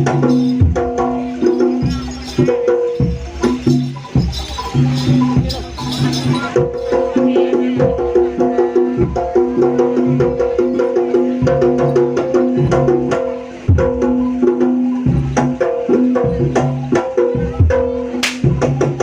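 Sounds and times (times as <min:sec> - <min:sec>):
gamelan ensemble playing: 0:00.0 - 0:18.2.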